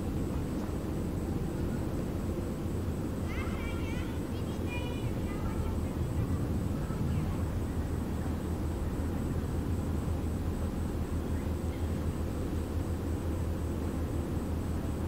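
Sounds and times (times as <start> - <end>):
faint high-pitched pulsing: 0.0 - 15.0
ship engine drone: 0.0 - 15.0.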